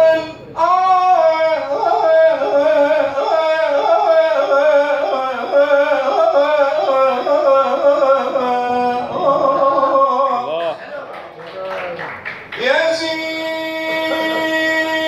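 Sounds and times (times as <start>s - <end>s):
man singing into microphone: 0.0s - 10.5s, 12.6s - 15.0s.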